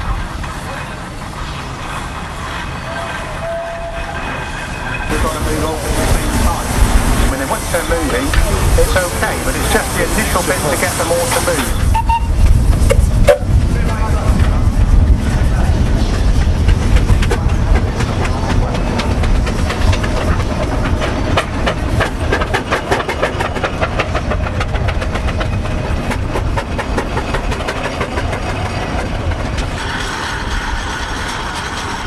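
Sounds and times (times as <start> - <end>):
steam engine exhaust chuffing: 0.0 - 32.0.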